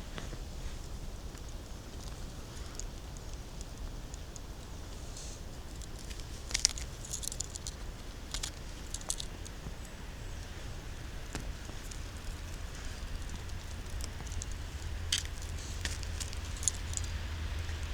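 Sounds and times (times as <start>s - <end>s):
dry leaves and twigs crackling: 0.0s - 17.9s.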